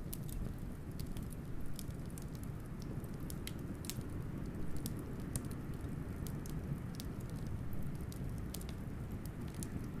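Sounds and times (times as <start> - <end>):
low rumble of wind: 0.0 - 10.0
wood fire crackling: 0.0 - 10.0.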